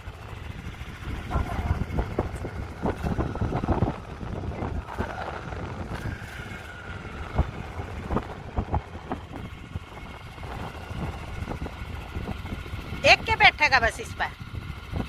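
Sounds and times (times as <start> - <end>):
low engine rumble: 0.0 - 15.0
wind buffeting microphone: 0.0 - 15.0.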